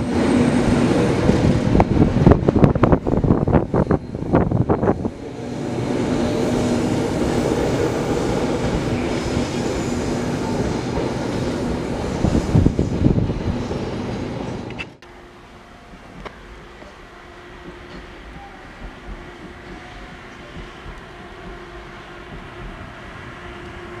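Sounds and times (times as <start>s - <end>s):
train rumbling with low hum: 0.0s - 24.0s.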